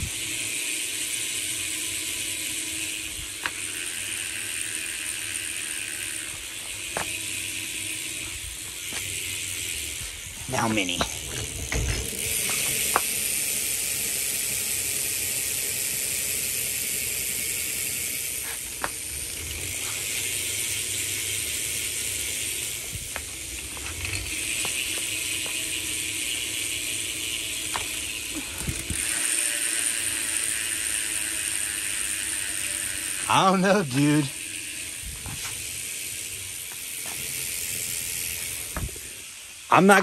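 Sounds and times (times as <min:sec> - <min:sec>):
bicycle hub ratchet buzzing: 0:00.0 - 0:40.0.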